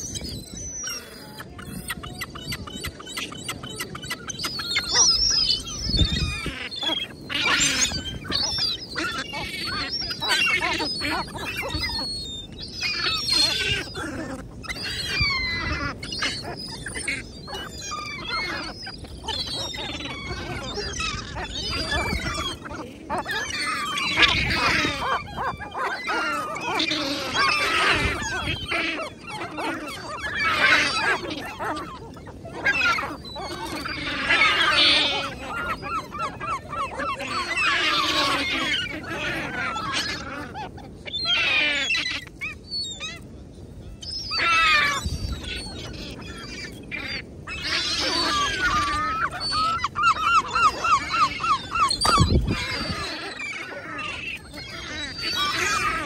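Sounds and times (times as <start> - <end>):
seagulls calling: 0.0 - 56.0.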